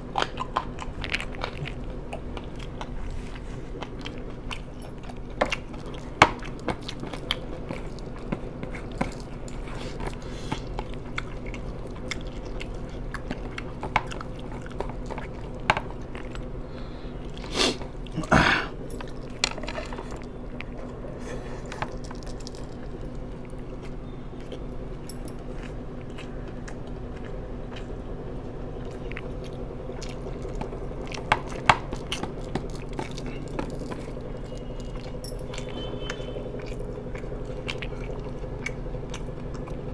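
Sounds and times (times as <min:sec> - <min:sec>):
person chewing and crunching: 0:00.0 - 0:39.9
steady low hum: 0:00.0 - 0:39.9.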